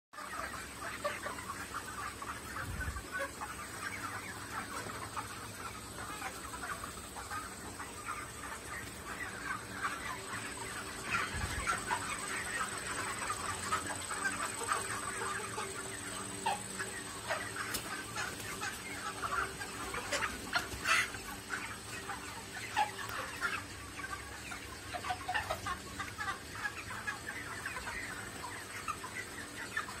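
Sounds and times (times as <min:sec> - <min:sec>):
chickens clucking and cheeping: 0:00.2 - 0:30.0.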